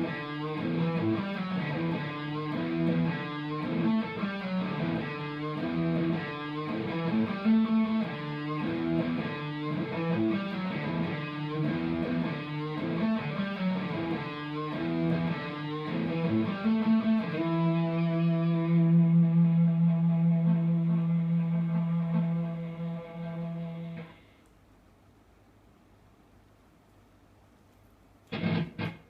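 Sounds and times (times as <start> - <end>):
electric guitar notes and chords: 0.0 - 24.2, 28.3 - 29.0.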